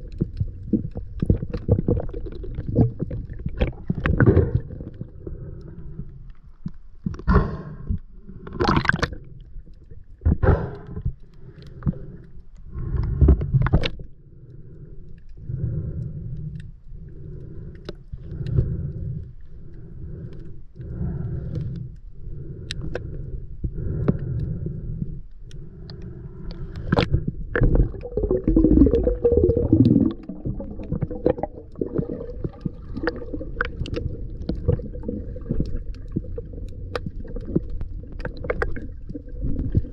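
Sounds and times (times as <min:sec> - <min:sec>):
underwater swishing water: 0:00.0 - 0:39.9.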